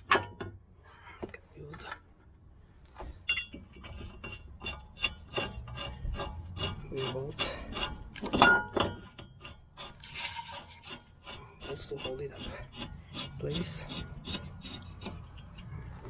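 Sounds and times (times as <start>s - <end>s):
wheel nut clicking and scraping: 0.0s - 2.1s, 2.8s - 16.0s.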